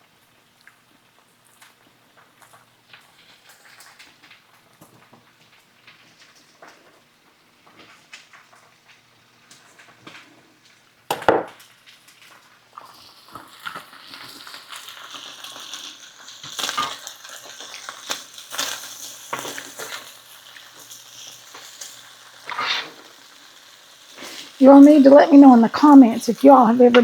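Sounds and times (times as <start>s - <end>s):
oil crackling and popping: 0.0s - 27.0s
food sizzling in hot oil: 1.2s - 10.0s, 10.6s - 27.0s.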